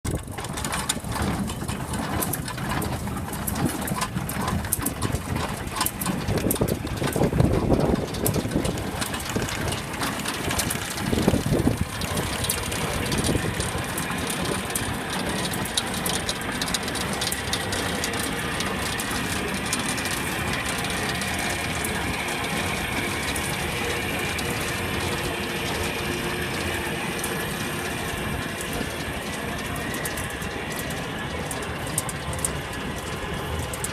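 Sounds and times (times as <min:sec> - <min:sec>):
hay baler clattering: 0:00.1 - 0:33.9.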